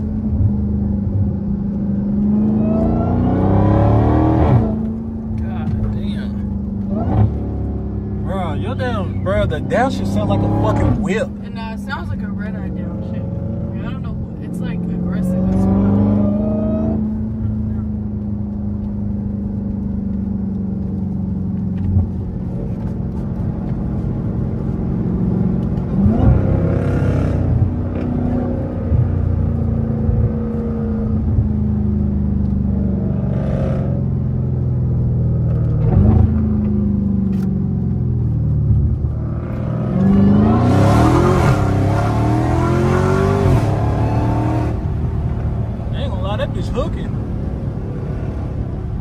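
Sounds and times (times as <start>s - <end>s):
car engine droning and revving: 0.0s - 49.0s.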